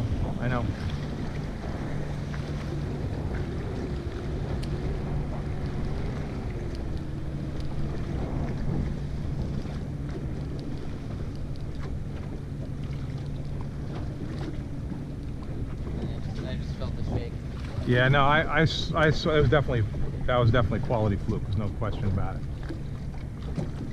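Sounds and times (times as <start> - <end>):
boat engine humming: 0.0 - 23.9
water washing around hull: 0.0 - 23.9
wavering engine tone: 0.0 - 23.9
wind buffeting microphone: 0.0 - 23.9.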